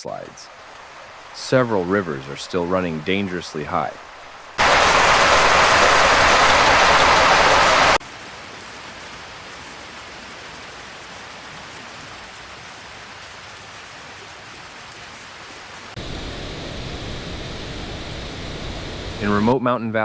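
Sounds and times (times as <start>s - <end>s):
rushing water: 0.0s - 19.5s.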